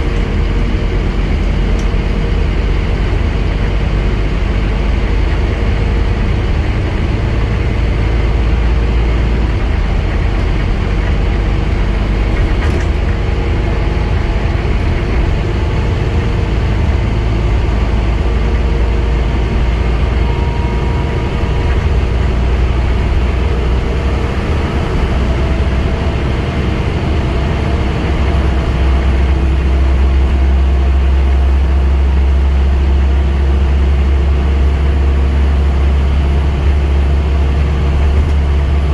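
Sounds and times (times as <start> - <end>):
bus diesel engine running: 0.0 - 38.9
road and tyre noise: 0.0 - 38.9.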